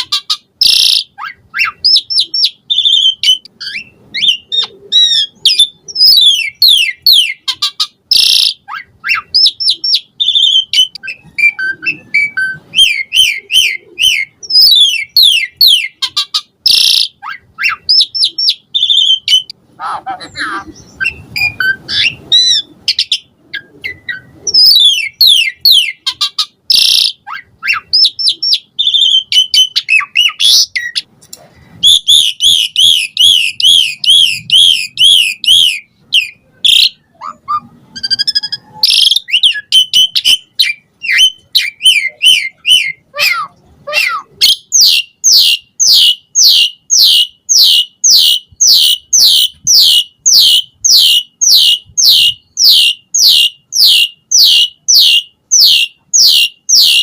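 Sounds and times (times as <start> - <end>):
starling singing: 0.0 - 31.1, 31.8 - 57.0.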